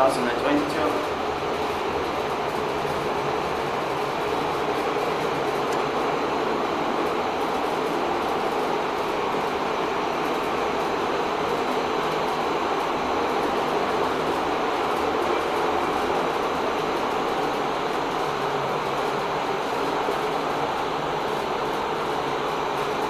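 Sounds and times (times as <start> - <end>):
elevator running: 0.0 - 23.0.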